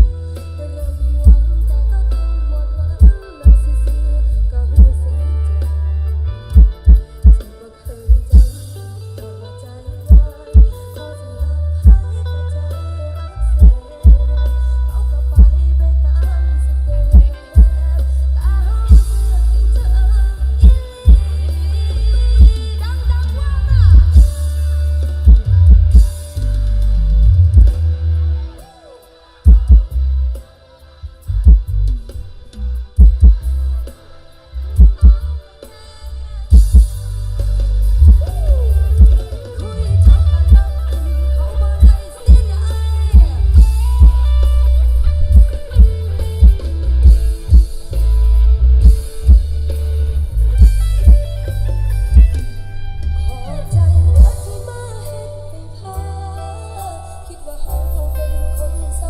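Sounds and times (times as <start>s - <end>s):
bass-heavy music through speaker: 0.0s - 59.0s.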